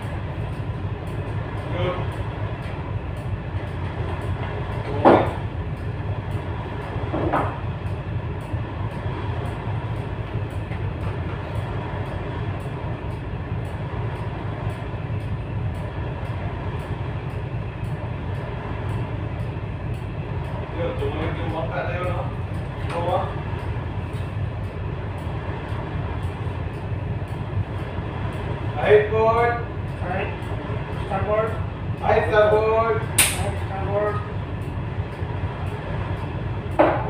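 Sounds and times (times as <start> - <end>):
ship engines rumbling: 0.0 - 37.0.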